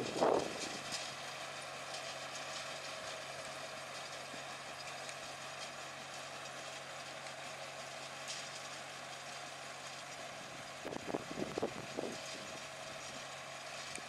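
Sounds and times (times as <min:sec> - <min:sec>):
tractor diesel engine running: 0:00.0 - 0:14.0
faint ticks and rattles: 0:00.1 - 0:14.0.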